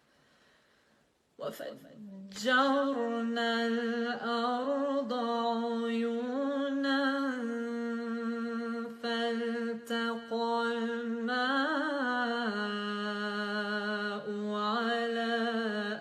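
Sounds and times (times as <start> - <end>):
woman reciting melodically: 1.4 - 16.0.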